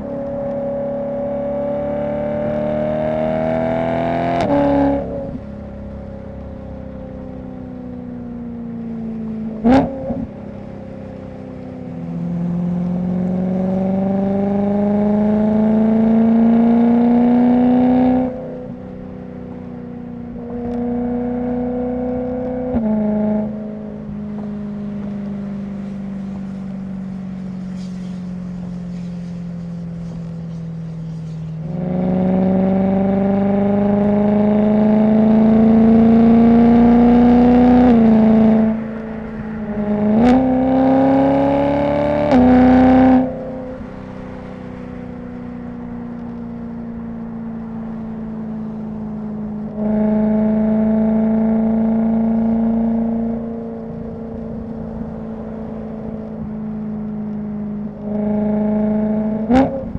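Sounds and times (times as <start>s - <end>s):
car engine and exhaust: 0.0s - 59.9s.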